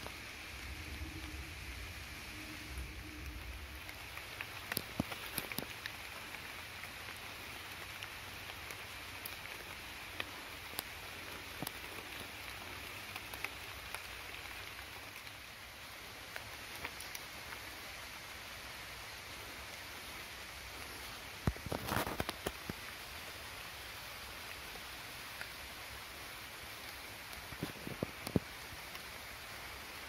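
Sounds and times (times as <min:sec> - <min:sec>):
rain on foliage: 0:00.0 - 0:30.0
raindrops ticking: 0:00.0 - 0:30.0.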